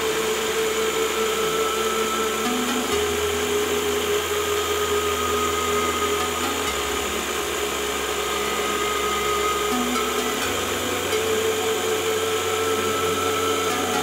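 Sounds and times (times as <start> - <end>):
milling machine spindle whine: 0.0 - 14.0.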